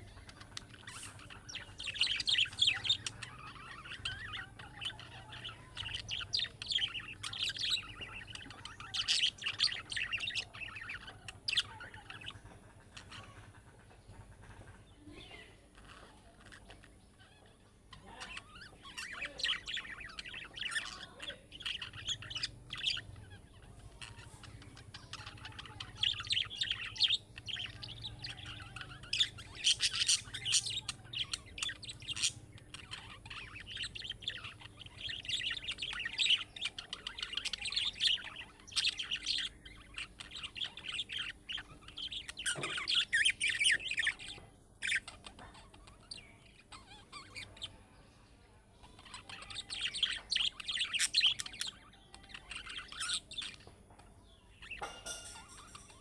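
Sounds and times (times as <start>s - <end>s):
budgerigars chattering and warbling: 0.0s - 56.0s.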